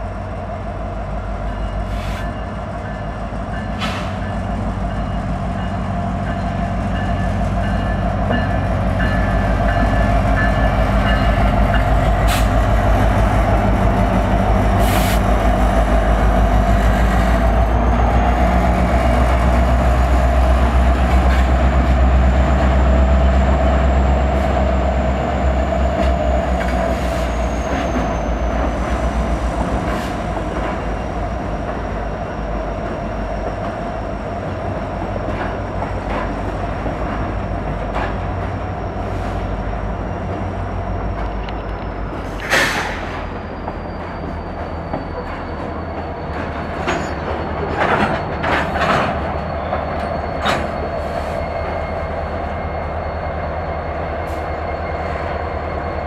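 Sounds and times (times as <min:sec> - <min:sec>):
diesel locomotive rumble: 0:00.0 - 0:56.0
steel wheels ringing on rails: 0:01.4 - 0:14.0, 0:15.6 - 0:56.0.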